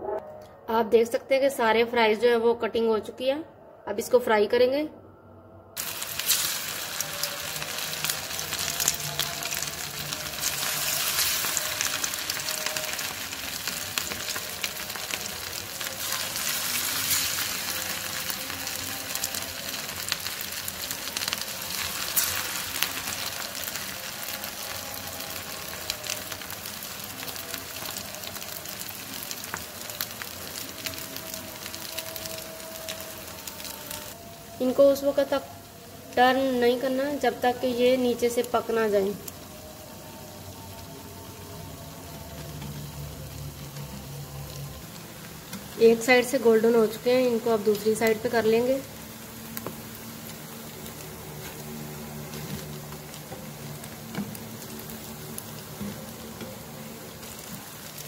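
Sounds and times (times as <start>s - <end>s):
food sizzling in hot oil: 5.8s - 58.0s.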